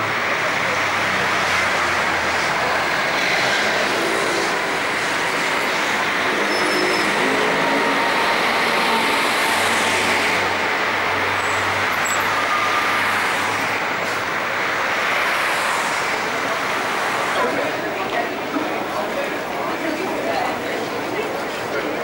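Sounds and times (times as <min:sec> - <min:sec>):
passing cars: 0:00.0 - 0:22.0.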